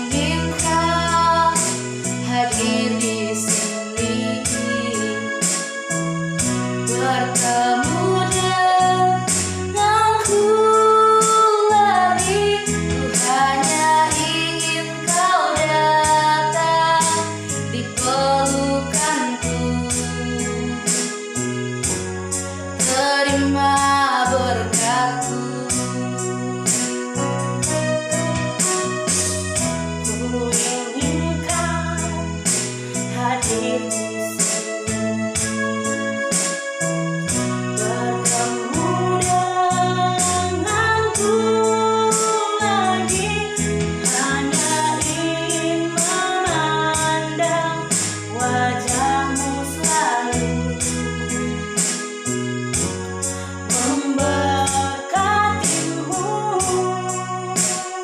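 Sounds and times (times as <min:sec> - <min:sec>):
person singing: 0:00.0 - 0:05.8, 0:06.8 - 0:21.2, 0:22.7 - 0:35.0, 0:37.2 - 0:51.4, 0:52.8 - 0:58.0
keyboard and band accompaniment: 0:00.0 - 0:58.0.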